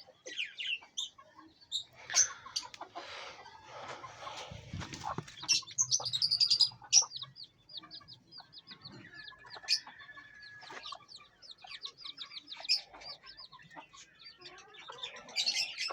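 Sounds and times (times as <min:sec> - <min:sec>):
chickens clucking: 0:00.0 - 0:15.9
small birds chirping: 0:00.0 - 0:15.9.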